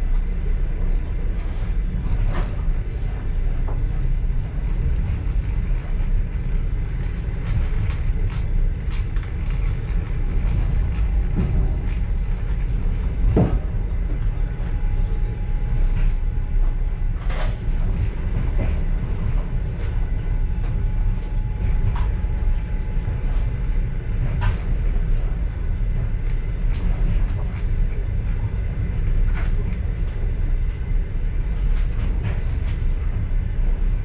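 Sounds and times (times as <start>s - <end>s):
railway car rumbling on track: 0.0s - 34.0s.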